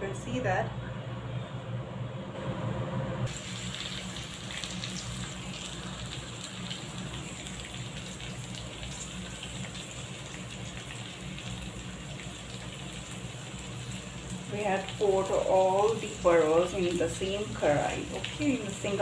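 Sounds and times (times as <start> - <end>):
pot cooking on gas stove: 3.2 - 19.0
vegetables frying in oil: 3.3 - 19.0.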